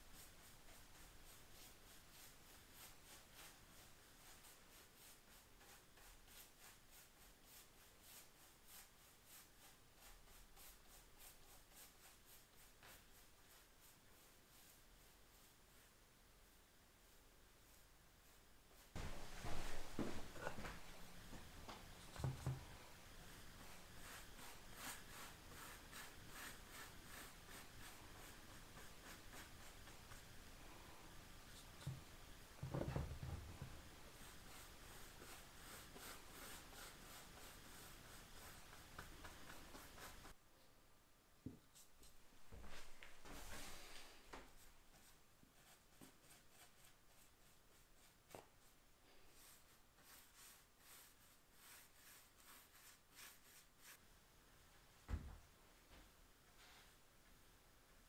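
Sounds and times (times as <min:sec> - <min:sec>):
paintbrush swishing on wood: 0:00.0 - 0:30.4, 0:31.4 - 0:40.4, 0:41.7 - 0:54.0.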